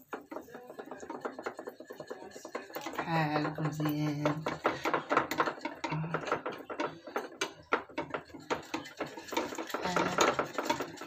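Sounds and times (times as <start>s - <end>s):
whisk clicking against glass bowl: 0.0s - 11.0s.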